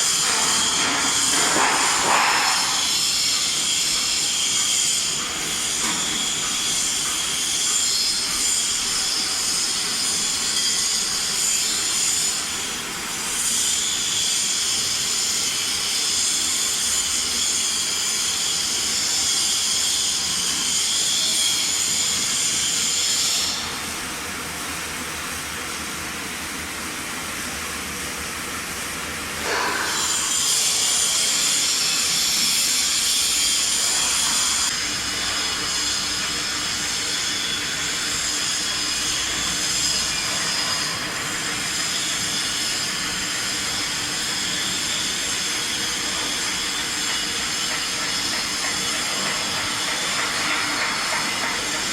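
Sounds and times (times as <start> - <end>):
metal spinning machine squealing: 0.0 - 23.8, 29.4 - 51.9.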